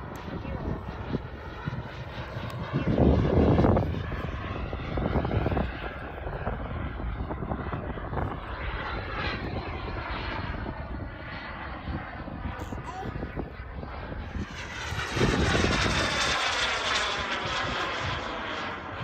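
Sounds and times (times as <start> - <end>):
model airplane engine: 0.0 - 19.0.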